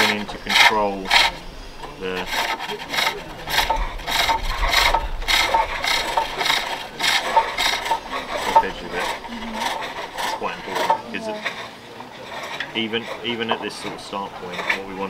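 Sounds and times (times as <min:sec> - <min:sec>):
hook tool shaving wood on a lathe: 0:00.0 - 0:15.0.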